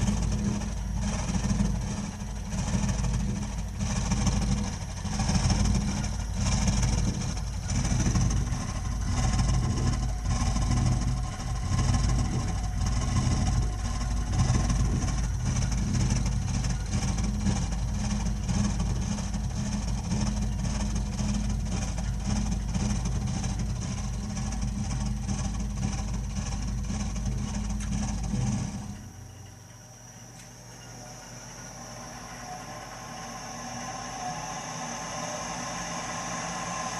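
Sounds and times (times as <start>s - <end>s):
boiler low rumble: 0.0s - 36.9s
faint hum: 0.0s - 36.9s.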